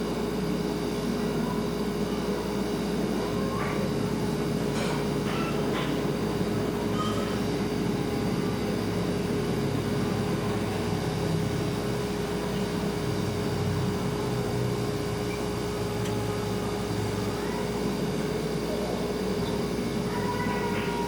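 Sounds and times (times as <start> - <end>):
refrigerator humming: 0.0 - 21.0.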